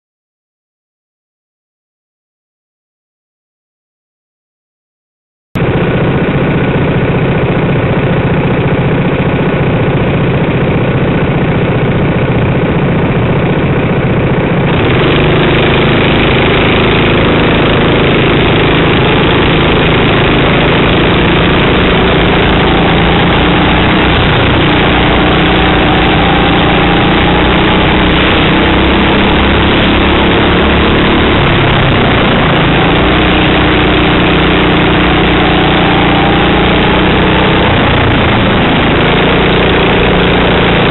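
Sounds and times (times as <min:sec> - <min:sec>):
kart engine revving: 0:05.6 - 0:40.9.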